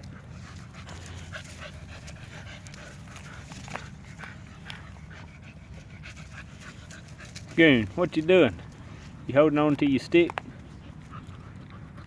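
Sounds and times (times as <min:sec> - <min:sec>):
dogs panting: 0:00.0 - 0:12.0
steady low rumble: 0:00.0 - 0:12.0.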